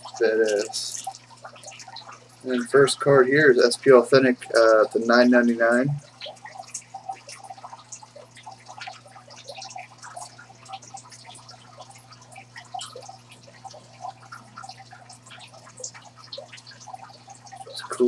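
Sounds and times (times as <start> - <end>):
faint clicks and crackles: 0.0 - 18.0.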